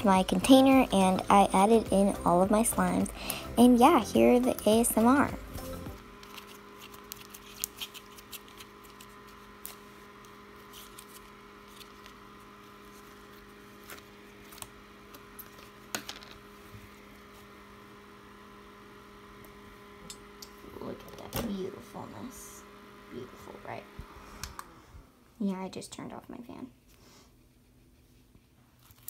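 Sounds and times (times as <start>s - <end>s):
electric fan hum: 0.0s - 29.0s.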